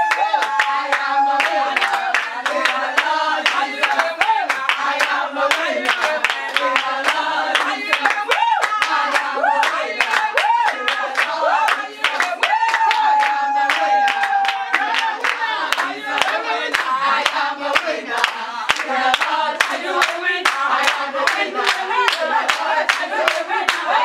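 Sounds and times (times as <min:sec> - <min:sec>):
group singing a praise song: 0:00.0 - 0:24.0
rhythmic hand-clapping: 0:00.0 - 0:24.0.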